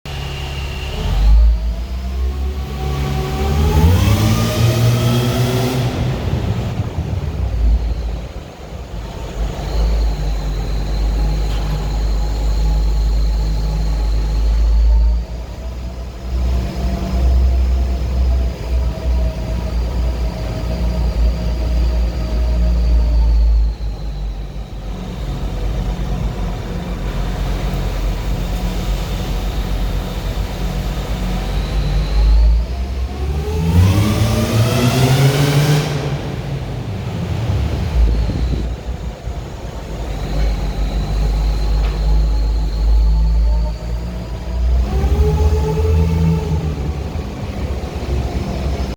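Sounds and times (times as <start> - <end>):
low exhaust rumble: 0.0 - 48.9
supercharger whine: 0.0 - 48.9.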